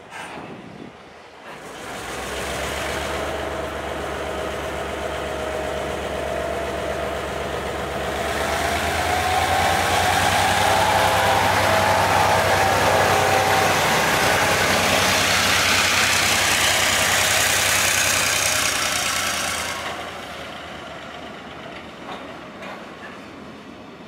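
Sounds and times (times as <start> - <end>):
train running by: 0.0 - 24.0.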